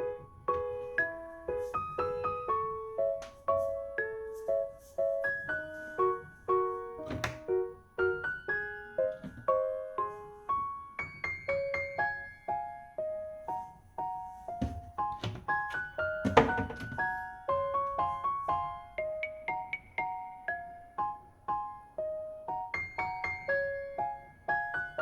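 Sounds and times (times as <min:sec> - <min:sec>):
piano melody: 0:00.0 - 0:25.0.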